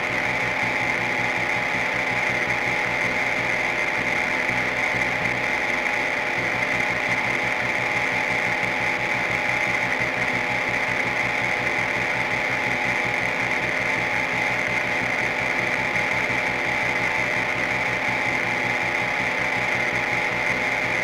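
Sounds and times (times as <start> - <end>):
bright buzzing drone: 0.0 - 21.0.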